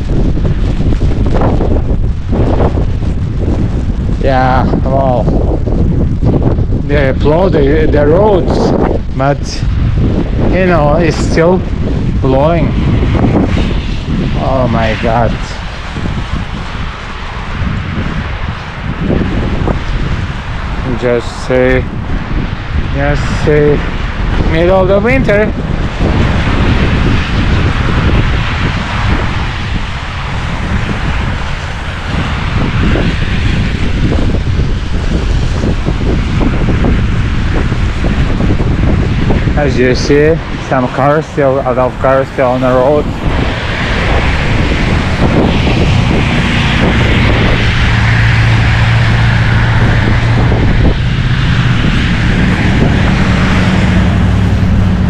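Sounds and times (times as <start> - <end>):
road traffic: 0.0 - 55.0
snowstorm wind buffeting microphone: 0.0 - 55.0
steady engine hum: 0.0 - 55.0.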